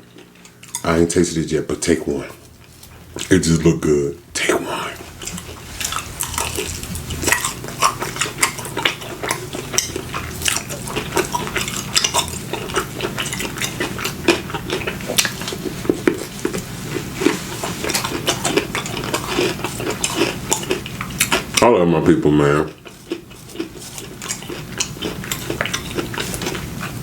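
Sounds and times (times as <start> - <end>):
wet chewing clicks and smacks: 0.0 - 1.0, 2.5 - 3.4, 5.0 - 21.7, 22.7 - 27.0.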